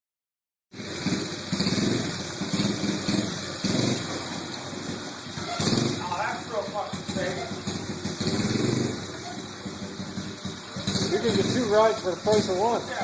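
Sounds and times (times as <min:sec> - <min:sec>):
small motorcycle engine running: 0:00.7 - 0:13.0.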